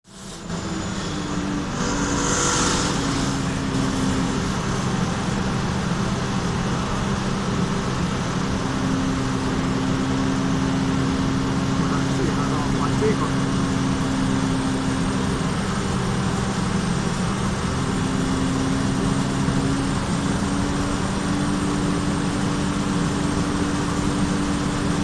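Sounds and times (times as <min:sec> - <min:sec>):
machine humming: 0:00.3 - 0:25.0.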